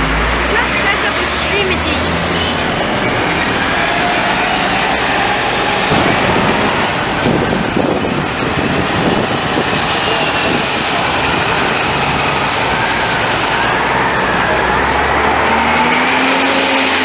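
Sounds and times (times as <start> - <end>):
buses and traffic driving past: 0.0 - 17.0.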